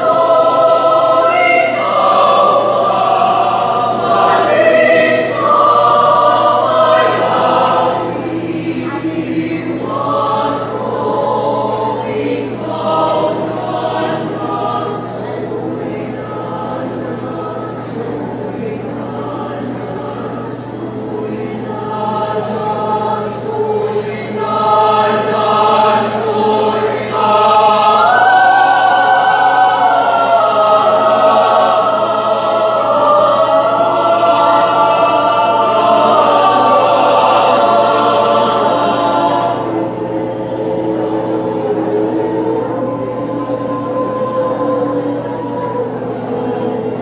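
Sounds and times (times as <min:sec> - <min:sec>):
choir singing sustained chords: 0:00.0 - 0:47.0
steady low hum: 0:00.0 - 0:47.0.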